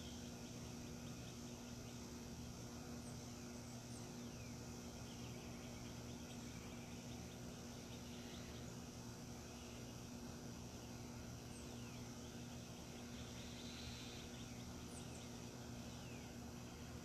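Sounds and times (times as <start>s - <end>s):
high insect drone: 0.0s - 17.0s
steady low hum: 0.0s - 17.0s.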